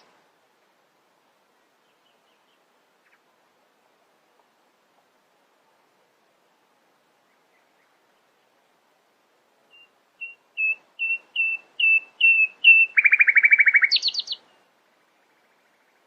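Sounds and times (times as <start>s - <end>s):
songbird singing: 1.4s - 8.9s, 9.5s - 16.0s.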